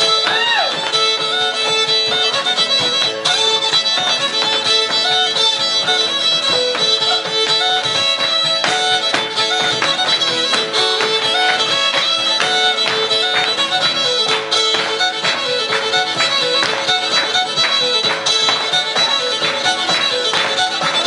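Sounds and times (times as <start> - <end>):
fiddle playing lively tune: 0.0 - 21.0
steady rhythmic strokes: 0.0 - 21.0.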